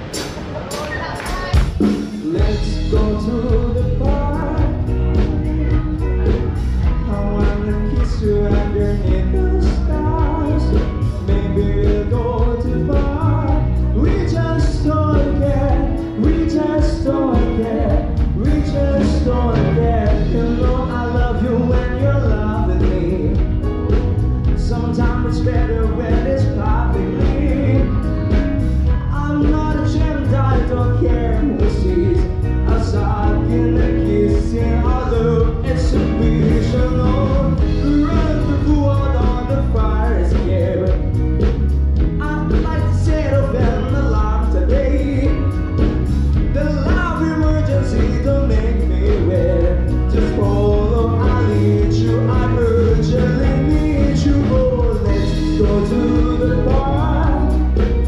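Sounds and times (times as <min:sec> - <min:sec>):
live band with steady beat: 0:00.0 - 0:58.0
man singing into a microphone: 0:01.9 - 0:58.0.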